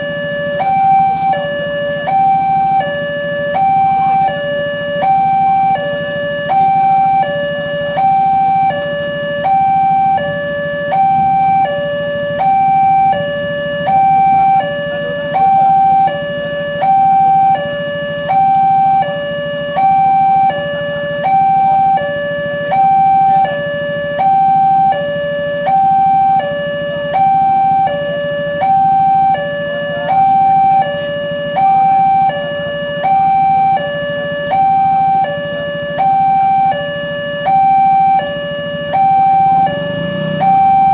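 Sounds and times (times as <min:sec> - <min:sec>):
two-tone level crossing alarm: 0:00.0 - 0:40.9.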